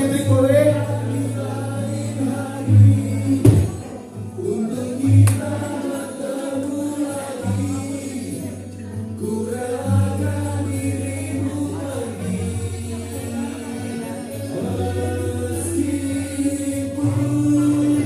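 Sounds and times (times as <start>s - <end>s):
music with singing: 0.0s - 18.0s.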